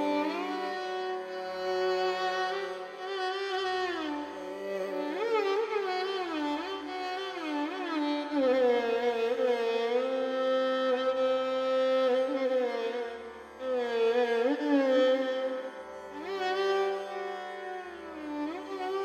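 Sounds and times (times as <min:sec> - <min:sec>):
violin melody: 0:00.0 - 0:19.0.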